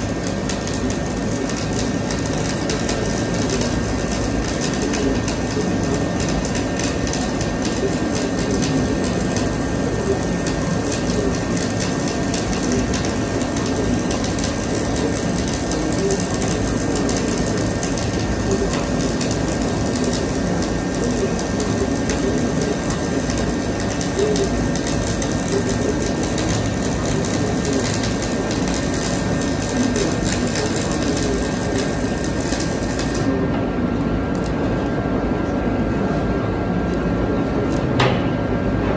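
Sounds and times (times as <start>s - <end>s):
welding arc crackling: 0.0s - 33.4s.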